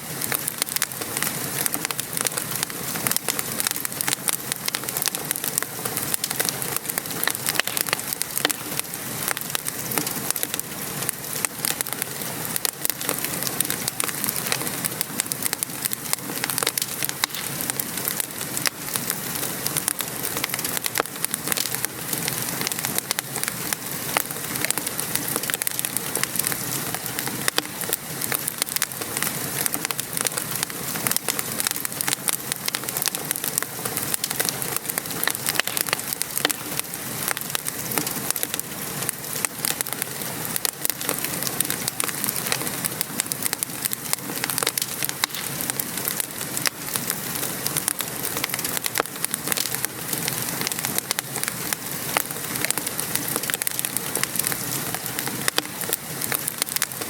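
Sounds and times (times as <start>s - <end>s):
rain pattering: 0.0s - 57.0s
wood fire crackling: 0.0s - 57.0s.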